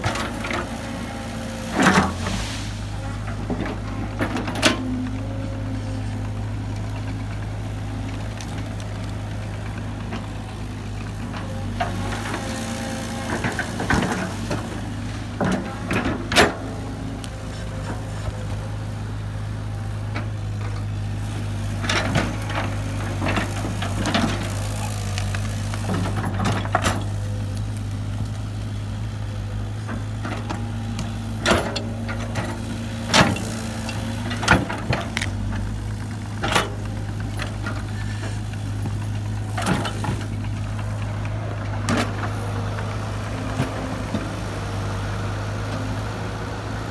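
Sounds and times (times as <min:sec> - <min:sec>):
heavy machinery engine running: 0:00.0 - 0:46.9.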